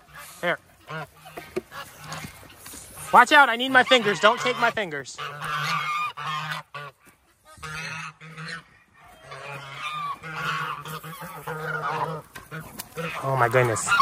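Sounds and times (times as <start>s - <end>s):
geese honking: 0.0s - 14.0s.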